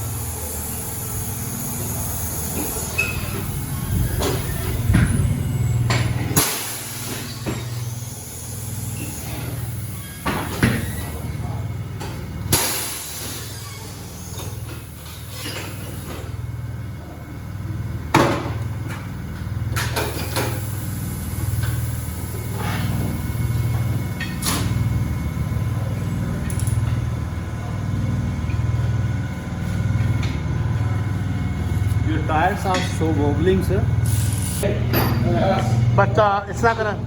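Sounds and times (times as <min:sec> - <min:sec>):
machinery humming in pulses: 0:00.0 - 0:37.0.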